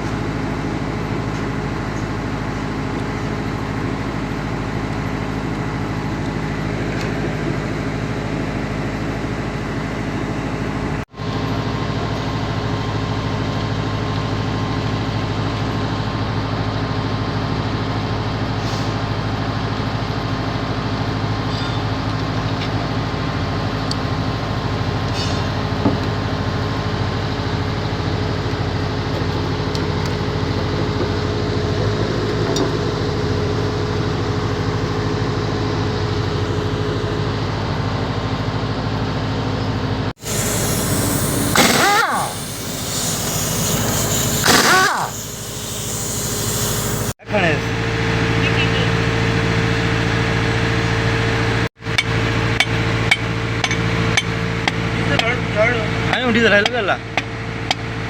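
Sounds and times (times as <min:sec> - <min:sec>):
engine running: 0:10.6 - 0:58.0.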